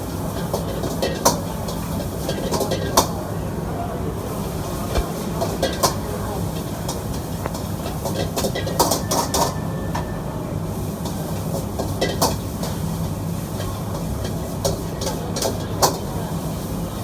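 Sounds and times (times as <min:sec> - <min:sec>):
wok burner rumble: 0:00.0 - 0:17.0.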